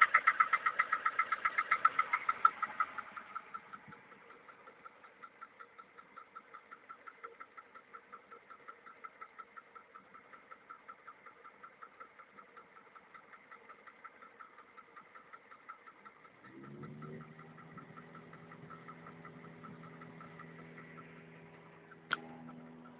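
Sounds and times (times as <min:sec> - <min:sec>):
car engine idling: 0:00.0 - 0:22.9
engine knocking taps: 0:00.0 - 0:22.9.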